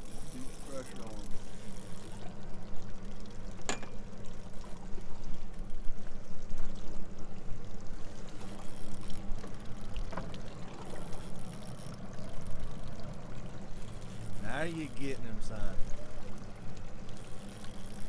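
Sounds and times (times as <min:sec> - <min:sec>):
outboard engines humming: 0:00.0 - 0:18.0
water lapping against boat hull: 0:00.0 - 0:18.0.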